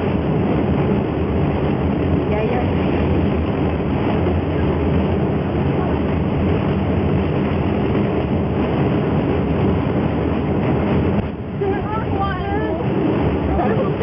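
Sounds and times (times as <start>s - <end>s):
gondola cabin rumble: 0.0s - 14.0s
wind buffeting cabin: 0.0s - 14.0s.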